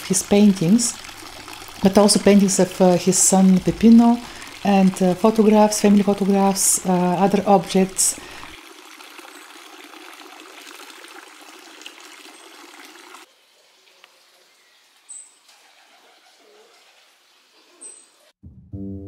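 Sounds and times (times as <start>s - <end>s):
fountain water trickling: 0.0s - 15.5s.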